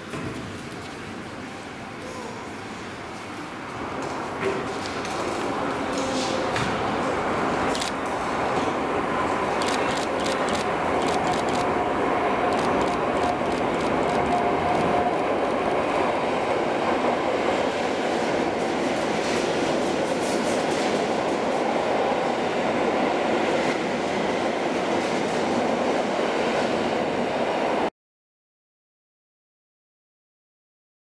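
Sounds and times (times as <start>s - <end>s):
train rumbling through station: 0.0s - 27.9s.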